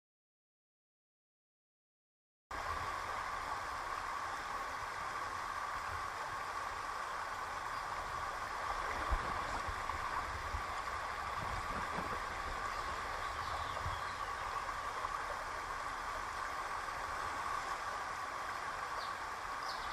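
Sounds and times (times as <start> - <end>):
river rushing over stones: 2.6 - 19.9.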